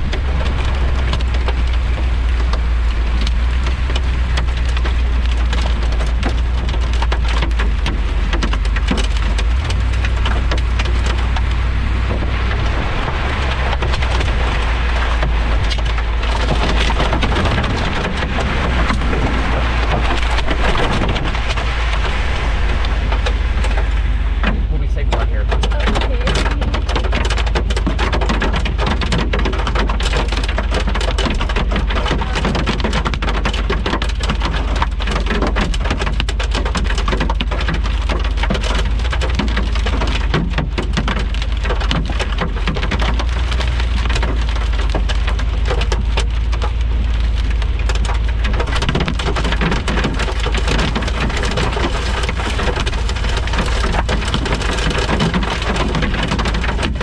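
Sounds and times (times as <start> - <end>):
heavy rain pounding: 0.0 - 57.0
low rumble: 0.0 - 57.0.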